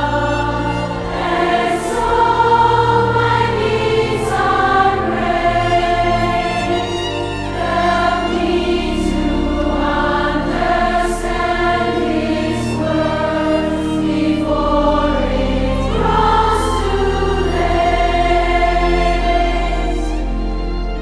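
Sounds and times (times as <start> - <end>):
choir singing: 0.0 - 21.0
sustained low notes: 0.0 - 21.0.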